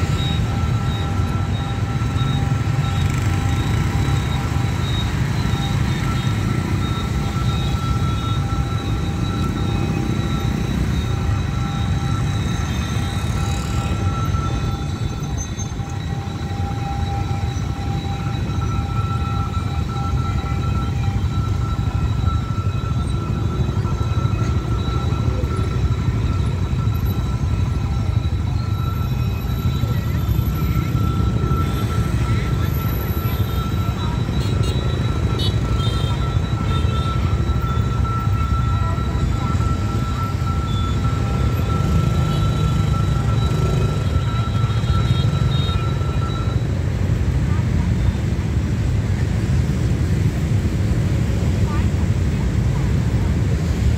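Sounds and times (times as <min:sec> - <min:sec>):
high-pitched warning signal tone: 0:00.0 - 0:53.9
motorbike engines rumbling: 0:00.0 - 0:53.9
road traffic: 0:00.0 - 0:53.9.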